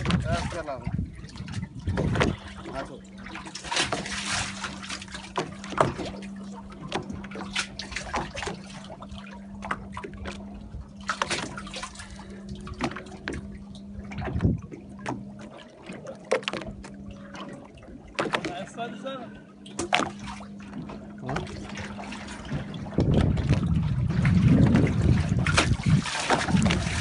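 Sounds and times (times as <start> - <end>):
steady low hum: 0.0 - 27.0
water splashing and sloshing: 0.0 - 27.0.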